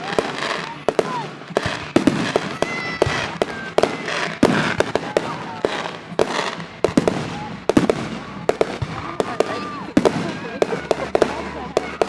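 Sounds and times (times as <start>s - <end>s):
continuous fireworks crackling: 0.0s - 12.0s
fireworks bangs and pops: 0.0s - 12.0s.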